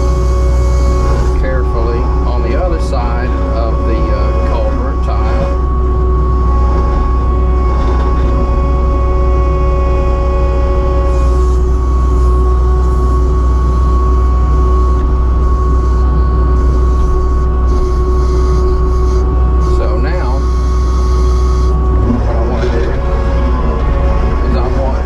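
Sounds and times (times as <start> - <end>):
diesel engine droning: 0.0 - 25.0
steady high whine: 0.0 - 25.0.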